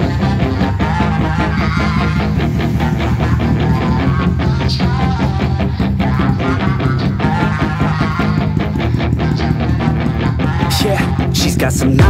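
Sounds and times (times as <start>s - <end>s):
instrumental pop music: 0.0s - 12.0s.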